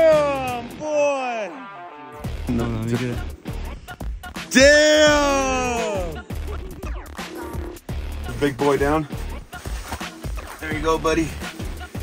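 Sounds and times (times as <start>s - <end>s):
music with steady beat: 1.7s - 12.0s.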